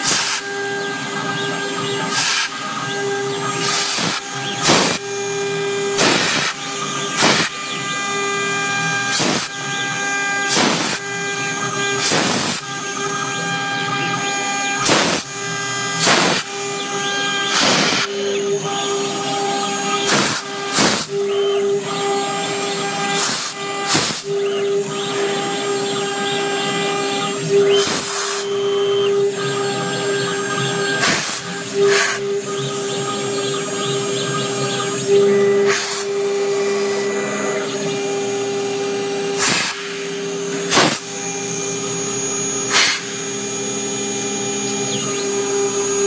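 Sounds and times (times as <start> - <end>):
router bit cutting board: 0.0 - 46.0
spindle whining at high speed: 0.0 - 46.0.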